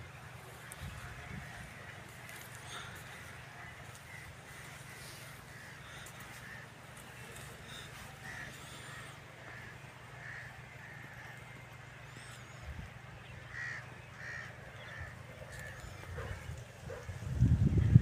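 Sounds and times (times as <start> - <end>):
low background hum: 0.0 - 18.0
crows cawing: 0.4 - 17.0.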